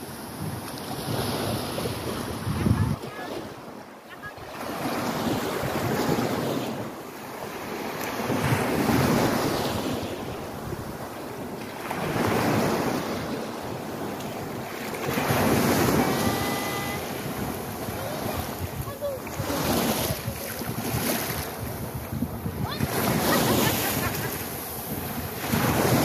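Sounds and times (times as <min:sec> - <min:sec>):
small waves breaking on sand: 0:00.0 - 0:26.0
wind on microphone: 0:00.1 - 0:03.6, 0:04.3 - 0:07.0, 0:08.1 - 0:26.0.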